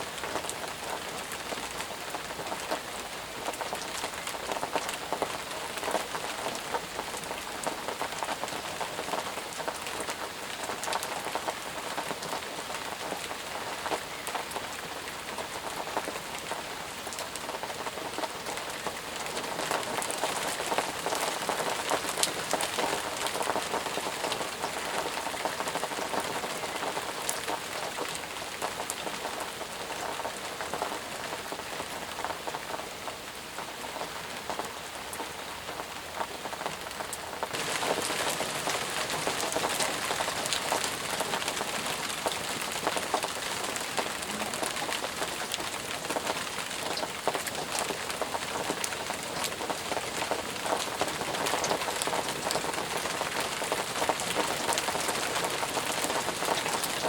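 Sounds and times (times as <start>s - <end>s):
intense rain falling: 0.0s - 57.0s.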